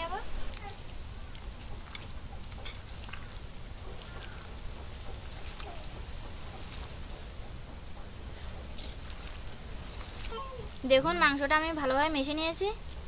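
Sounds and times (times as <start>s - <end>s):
wet squishing of meat: 0.0s - 8.0s, 8.6s - 13.0s.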